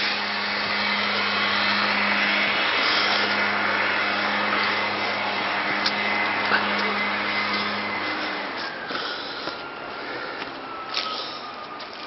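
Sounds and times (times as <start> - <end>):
low hum: 0.0 - 12.0
rushing motor-like noise: 0.0 - 12.0.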